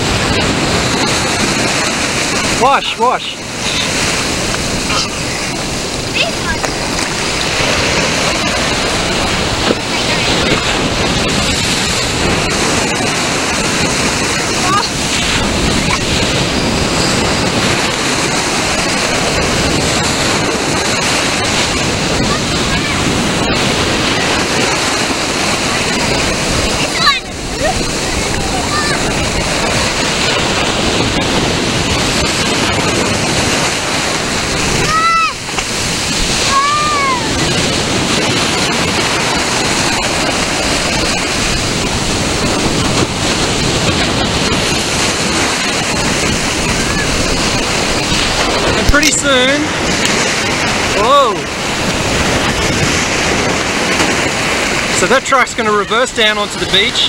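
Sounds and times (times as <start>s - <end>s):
surf washing in: 0.0s - 57.0s
waves breaking and foaming: 0.0s - 57.0s.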